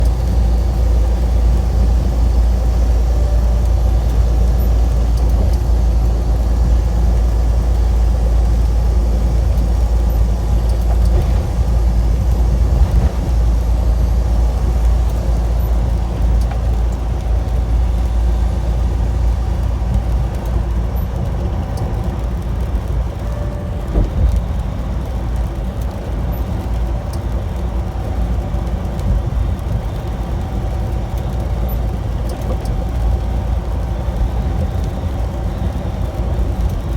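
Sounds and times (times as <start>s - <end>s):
truck engine rumbling: 0.0s - 36.9s.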